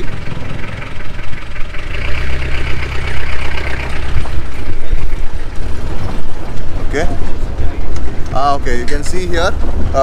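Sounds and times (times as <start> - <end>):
jeep engine running: 0.0 - 10.0.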